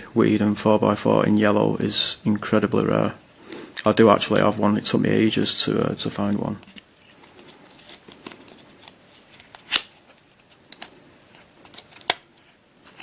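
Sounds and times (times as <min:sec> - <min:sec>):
soft rustling of packaging: 0:02.4 - 0:13.0.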